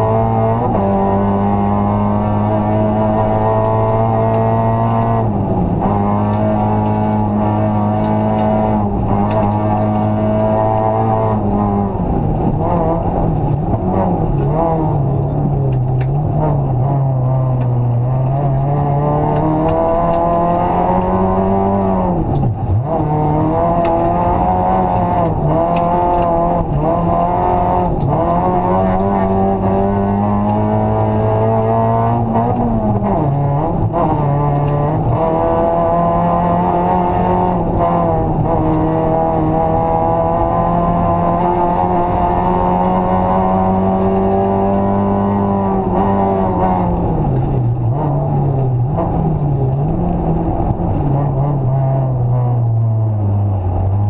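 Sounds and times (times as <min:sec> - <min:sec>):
rally car engine accelerating: 0:00.0 - 0:54.0.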